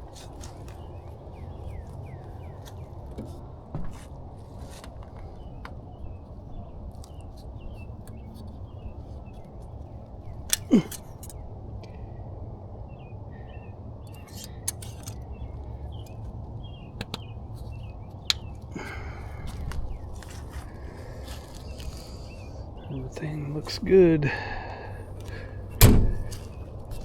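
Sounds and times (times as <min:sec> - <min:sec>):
small birds chirping: 0:00.0 - 0:12.2, 0:12.9 - 0:27.0
steady low rumble: 0:00.0 - 0:27.0.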